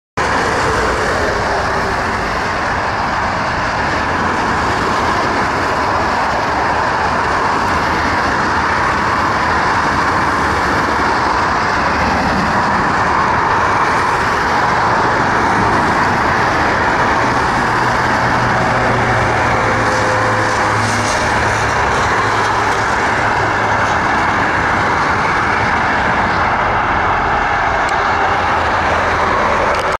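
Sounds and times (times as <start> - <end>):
jet engines roaring: 0.2 - 30.0.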